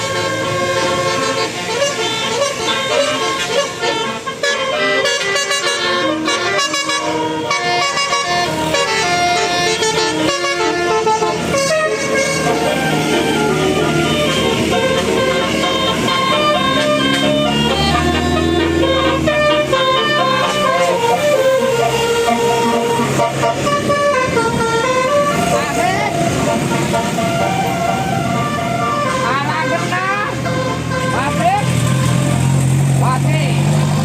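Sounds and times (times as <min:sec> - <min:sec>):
multi-tone bus air horn melody: 0:00.0 - 0:32.6.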